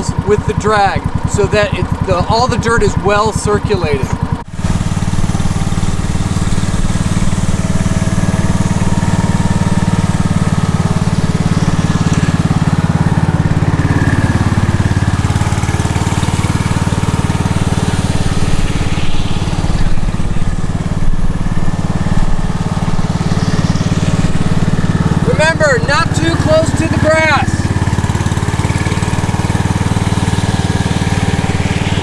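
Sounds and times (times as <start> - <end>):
tractor engine running under load: 0.0 - 32.0.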